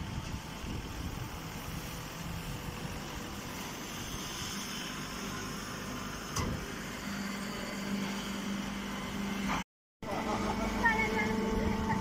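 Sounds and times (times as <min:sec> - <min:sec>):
hydraulic baler running: 0:00.1 - 0:12.0.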